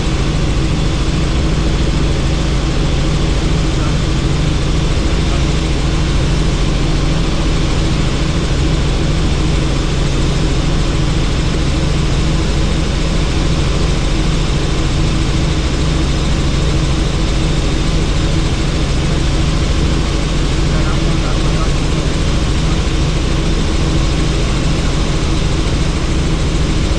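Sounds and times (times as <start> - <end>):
helicopter engine and rotor noise: 0.0 - 26.9.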